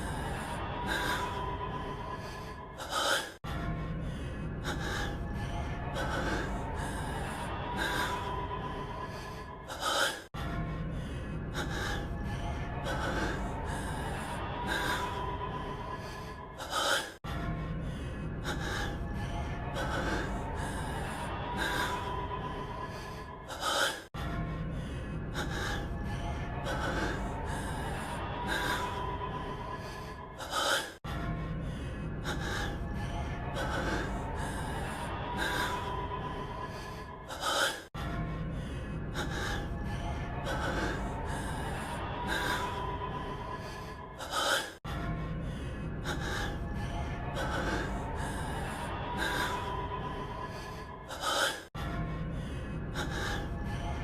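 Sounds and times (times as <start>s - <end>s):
heavy gasping breaths: 0.0s - 54.0s
quiet background music: 0.0s - 54.0s.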